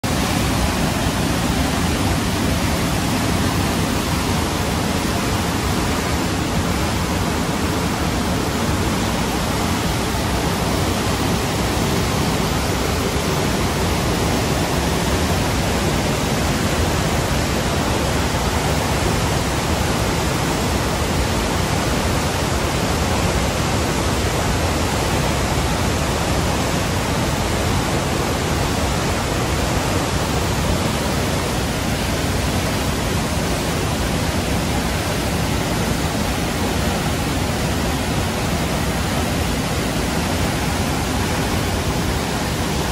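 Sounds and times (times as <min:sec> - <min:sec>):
river rapids roaring: 0:00.0 - 0:42.9.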